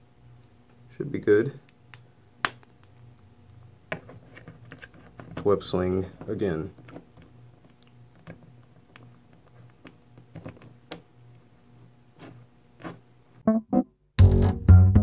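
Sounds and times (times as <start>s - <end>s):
low steady hum: 0.0s - 13.4s.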